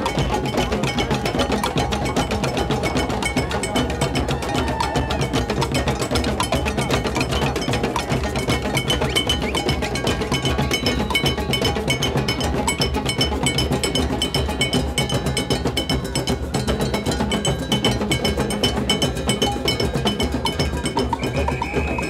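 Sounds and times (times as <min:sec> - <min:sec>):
hand drums beating: 0:00.0 - 0:22.0.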